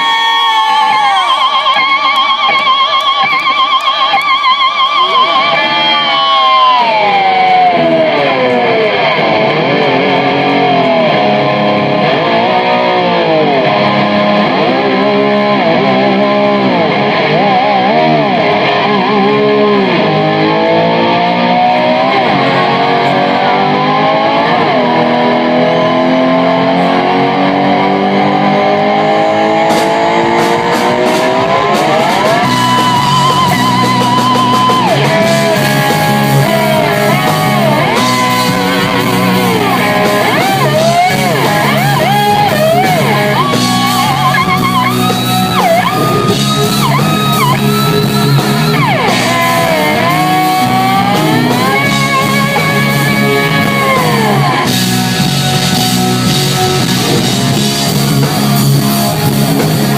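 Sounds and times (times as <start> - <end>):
slide electric guitar: 0.0 - 59.9.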